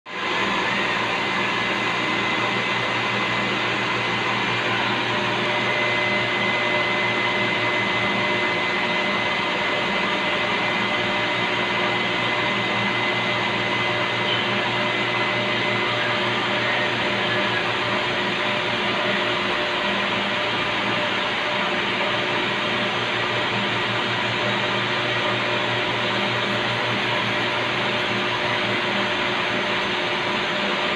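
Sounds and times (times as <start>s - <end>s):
machine humming and whirring: 0.2s - 30.9s.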